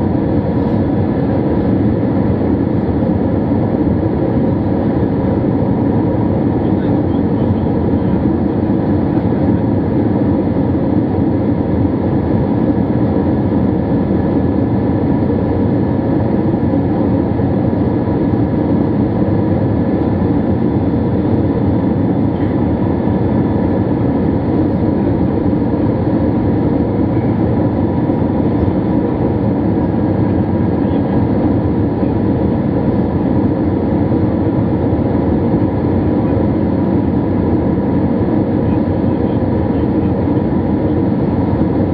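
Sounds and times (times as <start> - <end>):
jet engines droning: 0.0 - 41.9.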